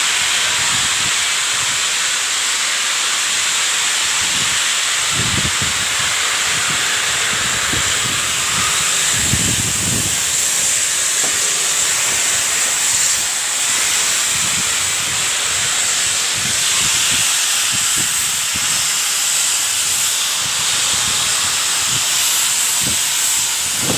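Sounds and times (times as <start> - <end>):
loud high-pitched hiss: 0.0 - 23.9.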